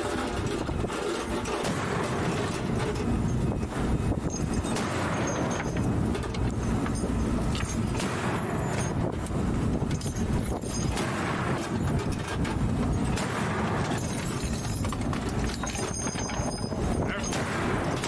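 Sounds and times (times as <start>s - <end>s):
boat engine and water rush: 0.0s - 18.0s.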